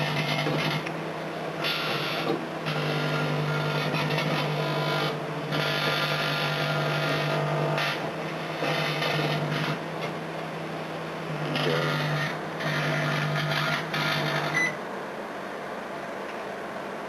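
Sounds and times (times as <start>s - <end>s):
buzzing crackle of arcing: 0.0s - 10.2s, 11.1s - 14.8s
microwave oven humming: 0.0s - 17.0s.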